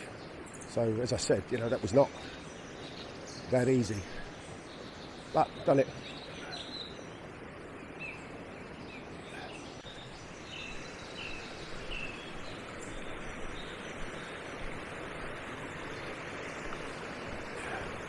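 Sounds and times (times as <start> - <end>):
brook water running over stones: 0.0 - 18.0
small bird chirping: 0.0 - 18.0.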